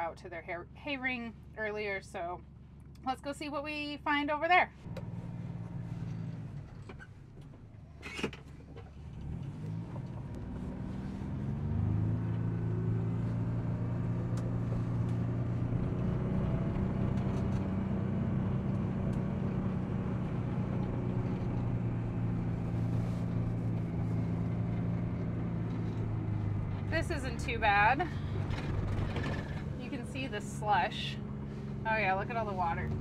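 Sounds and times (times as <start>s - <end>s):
utility vehicle engine revving: 4.8s - 33.0s.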